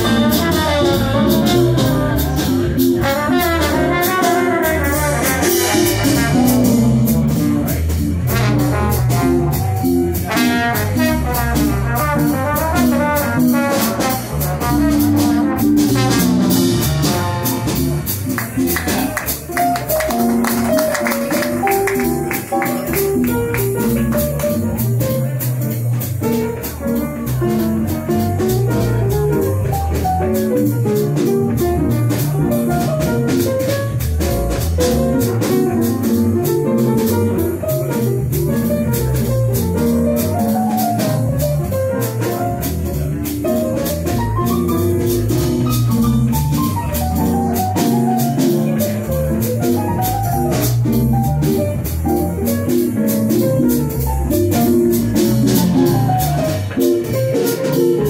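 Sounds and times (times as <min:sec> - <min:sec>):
piano: 0:00.0 - 0:58.0
upright double bass: 0:00.0 - 0:58.0.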